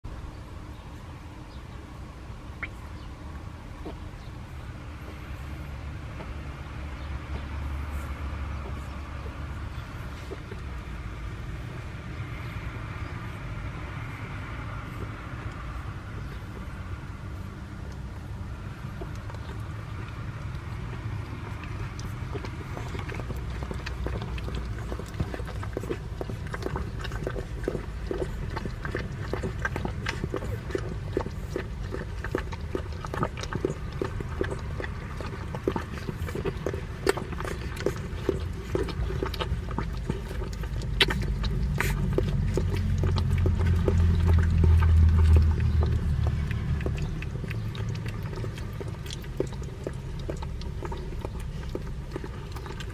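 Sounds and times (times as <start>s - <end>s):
puppies suckling: 2.5s - 52.9s
low rumble: 3.5s - 52.9s.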